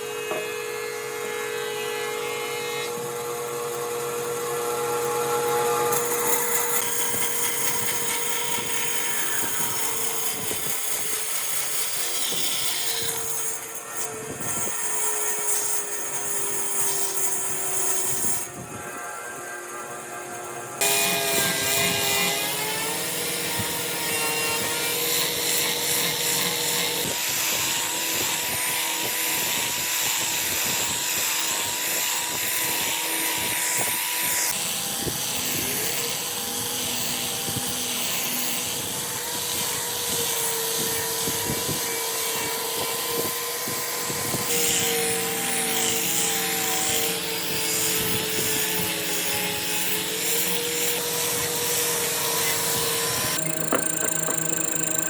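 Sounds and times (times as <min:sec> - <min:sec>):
power tool motor whining: 0:00.0 - 0:55.0.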